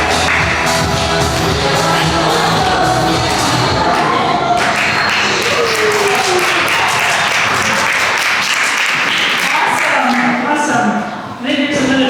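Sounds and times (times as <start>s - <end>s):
group of people clapping: 0.0s - 10.4s.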